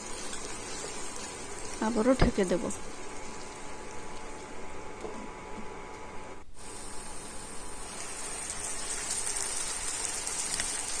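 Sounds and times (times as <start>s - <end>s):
curry sizzling in a pan: 0.0s - 5.4s, 6.6s - 11.0s.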